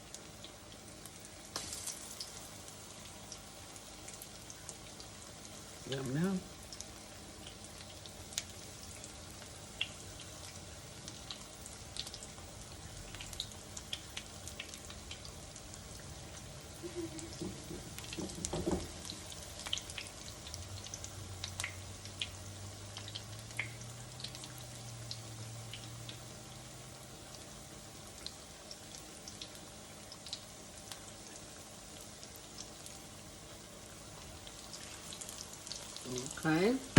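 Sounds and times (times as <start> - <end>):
food frying in hot oil: 0.0 - 36.9
oil crackling and popping: 0.0 - 36.9.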